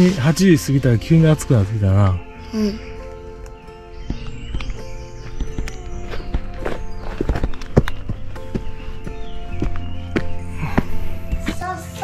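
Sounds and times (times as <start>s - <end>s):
music with held tones: 0.0s - 12.0s.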